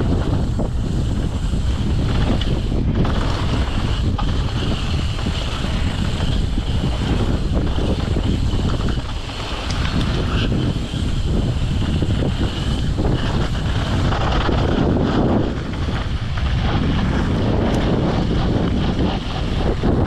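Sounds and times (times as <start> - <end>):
bike rumbling and rattling: 0.0 - 20.0
wind buffeting microphone: 0.0 - 20.0.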